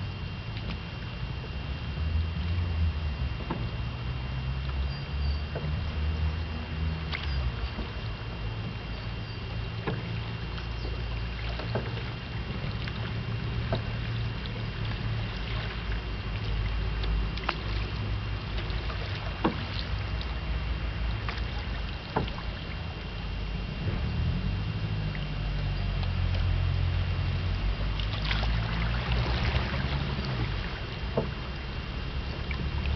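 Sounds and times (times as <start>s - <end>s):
low rumble of water and wind: 0.0s - 32.9s.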